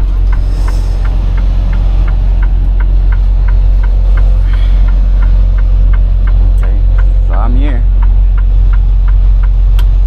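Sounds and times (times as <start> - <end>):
truck engine low drone: 0.0 - 10.0
turn signal clicking: 0.0 - 10.0.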